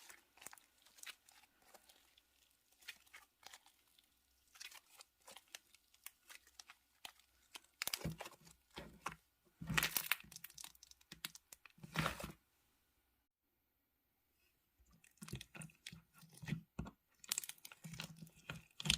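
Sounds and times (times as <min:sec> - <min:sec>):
slime crackling squishes: 0:00.0 - 0:12.3, 0:15.0 - 0:18.9.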